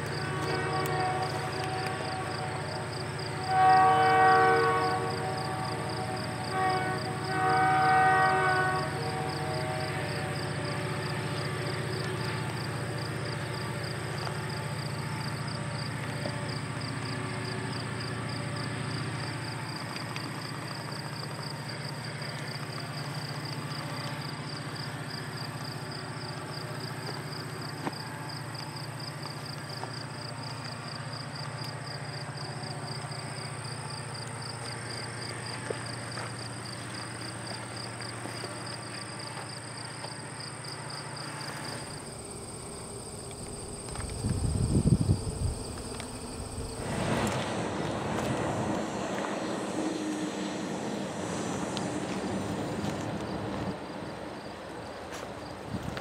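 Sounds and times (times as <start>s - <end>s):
diesel locomotive engine droning: 0.0s - 56.0s
insects chirping: 0.0s - 56.0s.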